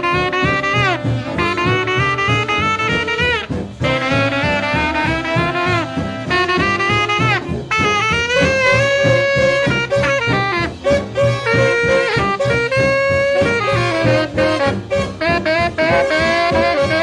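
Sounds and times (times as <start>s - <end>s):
bass and drum beat: 0.0s - 17.0s
horn section playing swing jazz: 0.0s - 17.0s.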